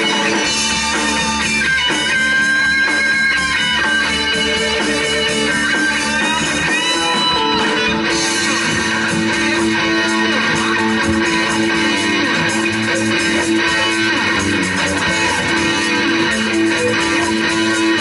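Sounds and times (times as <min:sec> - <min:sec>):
bass guitar: 0:00.0 - 0:18.0
drums: 0:00.0 - 0:18.0
electric guitar sliding notes: 0:00.0 - 0:18.0.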